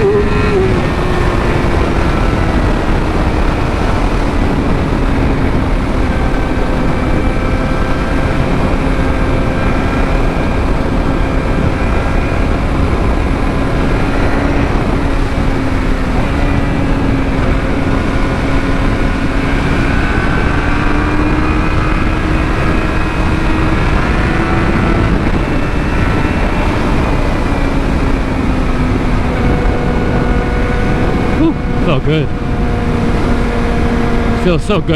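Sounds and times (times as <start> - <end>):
motorcycle engine cruising: 0.0 - 34.9
wind rush: 0.0 - 34.9.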